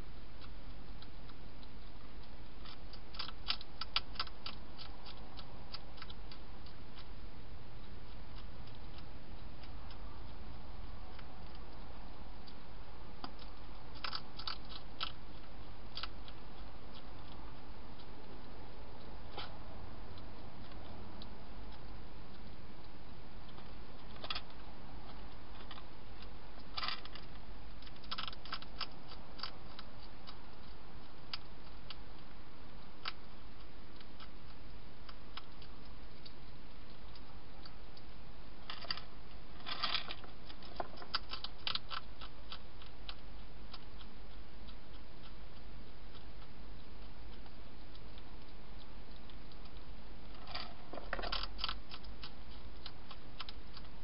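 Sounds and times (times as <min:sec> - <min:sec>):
hedgehog crunching food pellets: 0:00.0 - 0:54.0.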